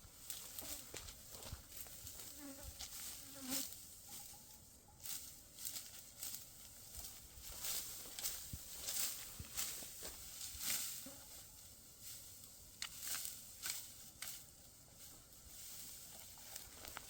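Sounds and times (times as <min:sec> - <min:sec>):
dry rustling and crunching: 0:00.0 - 0:17.0.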